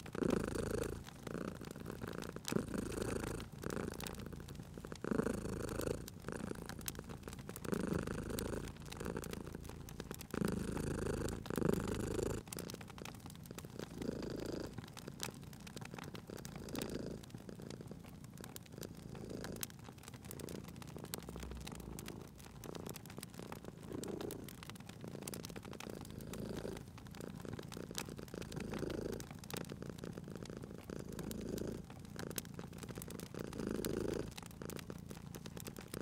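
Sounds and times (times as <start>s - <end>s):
cat purring: 0.0s - 36.0s
wood fire crackling: 0.0s - 36.0s.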